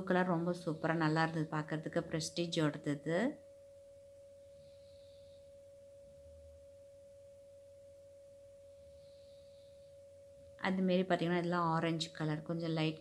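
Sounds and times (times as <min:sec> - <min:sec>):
faint electronic whine: 0:00.0 - 0:13.0.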